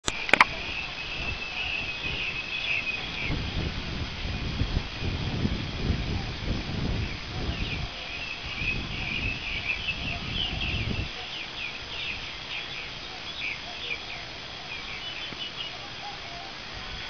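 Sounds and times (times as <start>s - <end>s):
birds chirping: 0.0s - 3.7s, 6.9s - 17.0s.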